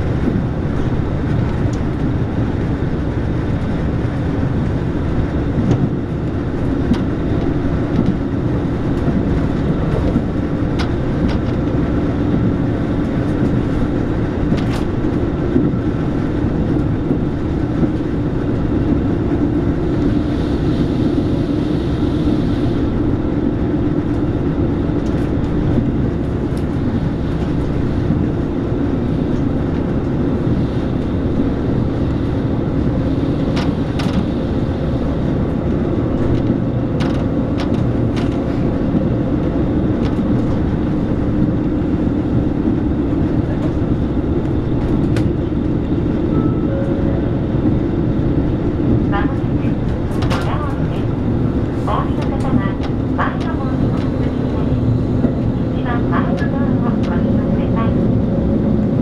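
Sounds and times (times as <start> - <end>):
train engine drone: 0.0 - 59.0
wheels on rail: 0.0 - 59.0.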